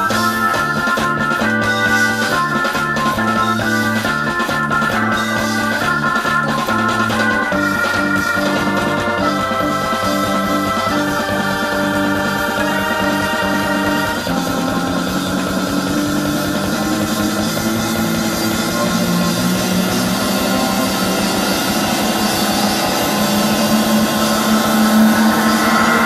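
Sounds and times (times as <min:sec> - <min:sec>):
prog rock band playing: 0:00.0 - 0:26.0.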